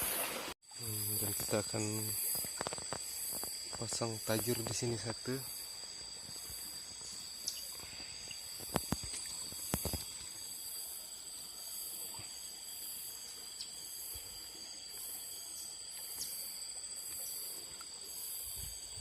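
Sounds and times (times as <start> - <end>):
insect pulsing call: 0.0 - 19.0
insects buzzing: 0.0 - 19.0.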